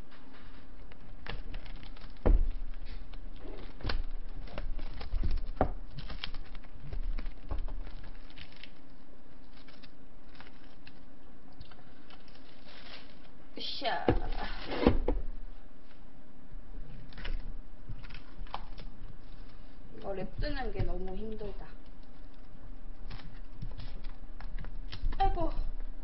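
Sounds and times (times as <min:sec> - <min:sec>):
cling wrap crinkling: 0:00.0 - 0:13.4, 0:16.8 - 0:26.0.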